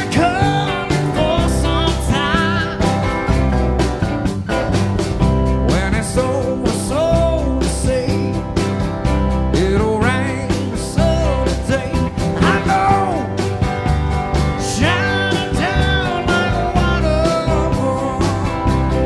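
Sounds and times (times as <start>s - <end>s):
bass: 0.0s - 19.0s
live country rock band playing: 0.0s - 19.0s
steady drum beat: 0.0s - 19.0s
strummed guitar: 0.0s - 19.0s.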